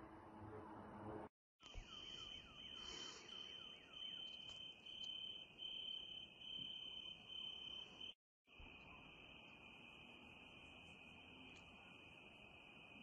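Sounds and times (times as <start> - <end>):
crickets trilling: 1.7 - 13.0.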